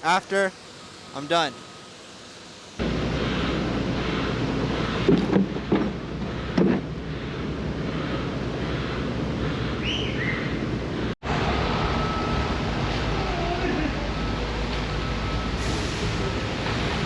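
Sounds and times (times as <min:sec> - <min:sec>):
heavy construction machinery rumble: 0:01.8 - 0:17.0.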